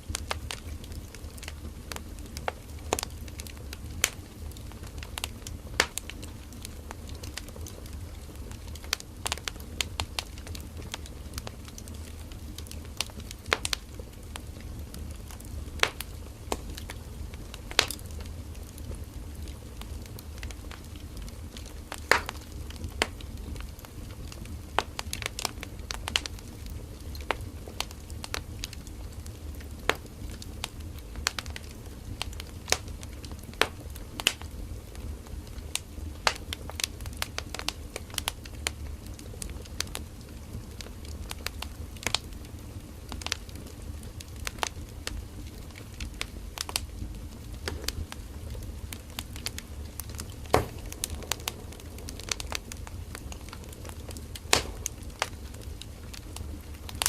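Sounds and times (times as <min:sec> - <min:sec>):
firewood crackling and popping: 0:00.0 - 0:57.0
low rumble of flames: 0:00.0 - 0:57.0.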